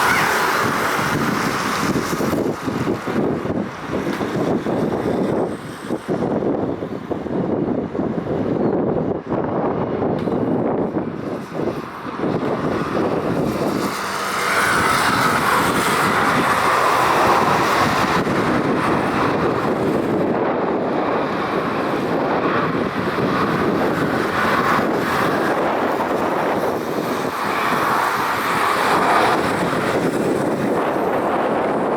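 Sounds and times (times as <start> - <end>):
jet engines roaring: 0.0 - 31.9
wind buffeting microphone: 0.0 - 31.9.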